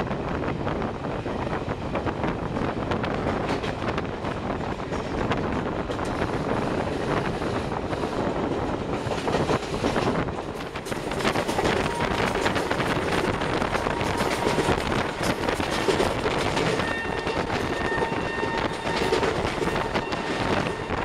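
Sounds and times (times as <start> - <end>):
train wheels on rails: 0.0 - 21.0
rapid clicks from track: 2.6 - 21.0.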